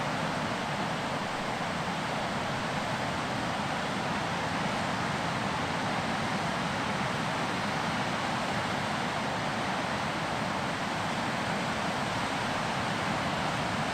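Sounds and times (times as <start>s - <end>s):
ocean waves breaking on beach: 0.0s - 13.9s.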